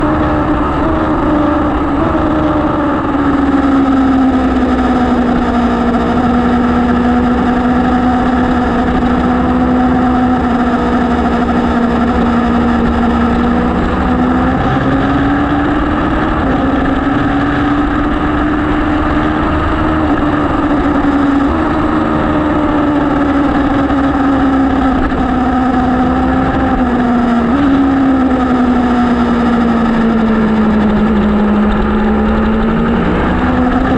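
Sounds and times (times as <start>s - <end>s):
motorcycle engine revving high: 0.0s - 33.9s.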